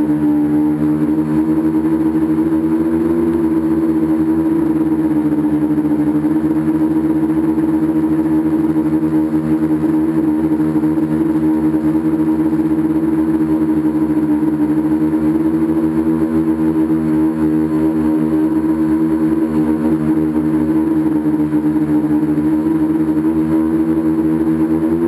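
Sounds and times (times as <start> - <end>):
drone motors and propellers: 0.0 - 25.0.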